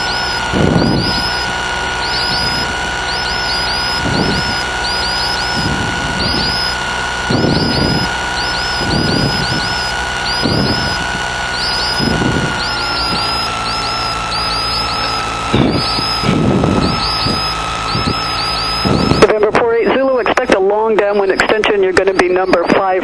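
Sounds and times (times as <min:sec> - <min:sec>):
aircraft engine idling: 0:00.0 - 0:23.0
steady high whine: 0:00.0 - 0:23.0.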